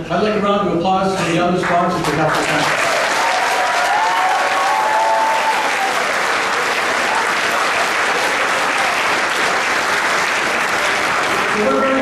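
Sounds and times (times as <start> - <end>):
audience applauding: 1.6 - 12.0.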